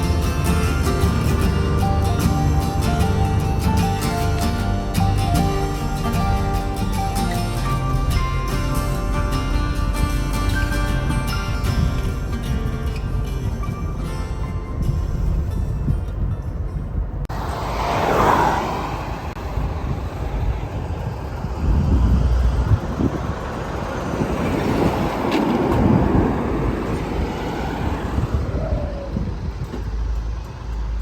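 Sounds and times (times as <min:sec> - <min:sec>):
vehicle engine and tyres rumbling: 0:00.0 - 0:31.0.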